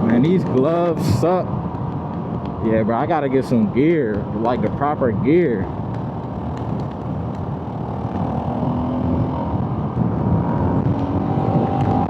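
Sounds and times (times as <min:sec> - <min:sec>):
wind rumble: 0:00.0 - 0:12.0.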